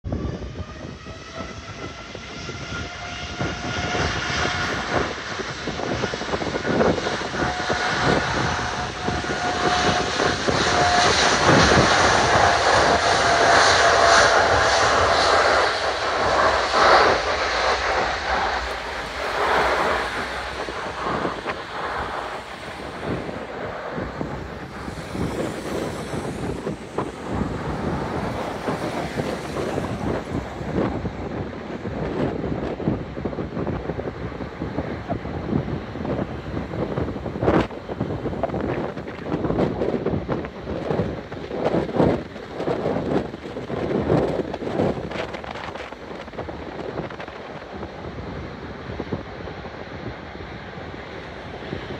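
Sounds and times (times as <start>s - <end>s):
jet engines whining and roaring: 0.0s - 51.9s.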